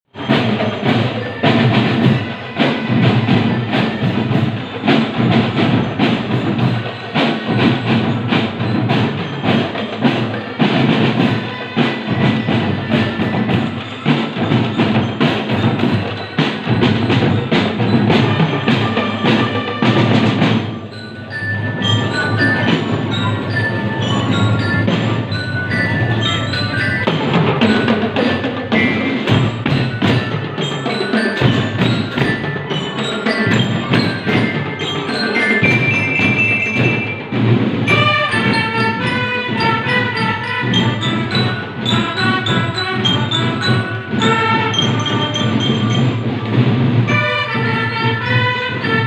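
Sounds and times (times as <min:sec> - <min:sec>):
marching drums: 0:00.1 - 0:49.0
mallet bells ringing: 0:00.2 - 0:49.0.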